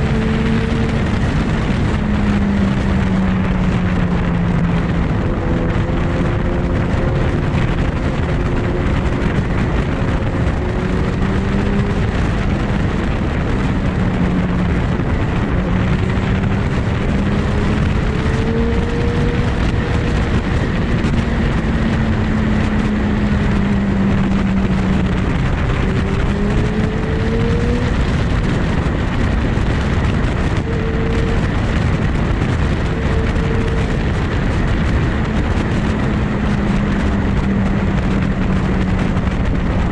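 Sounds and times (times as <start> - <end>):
loud rushing noise: 0.0 - 39.9
motorcycle engine cruising: 0.0 - 39.9.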